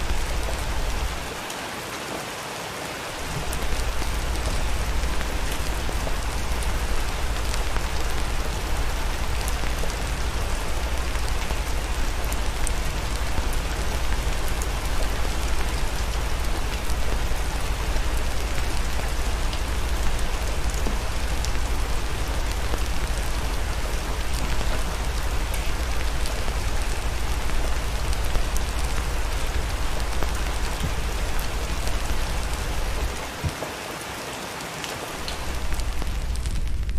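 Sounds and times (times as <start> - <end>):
rain pattering: 0.0 - 36.9
low rumble: 3.2 - 33.2, 35.3 - 36.9.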